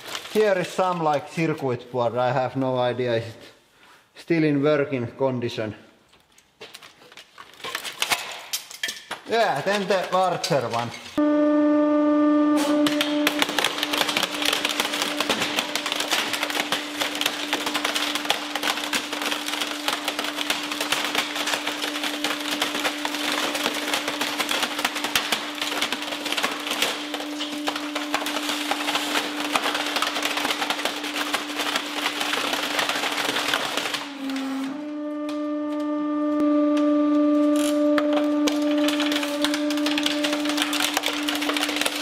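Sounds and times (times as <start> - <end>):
plastic crackling and snapping: 0.0 - 1.6, 6.1 - 11.1, 12.6 - 42.0.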